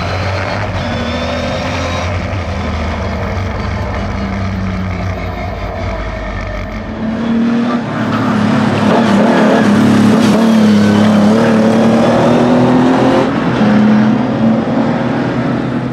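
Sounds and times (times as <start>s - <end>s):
racing car engine running hard: 0.0s - 15.9s.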